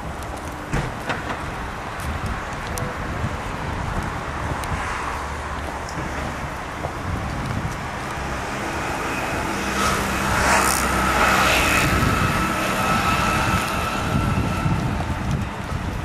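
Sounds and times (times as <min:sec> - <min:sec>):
rumble of cars: 0:00.0 - 0:16.0.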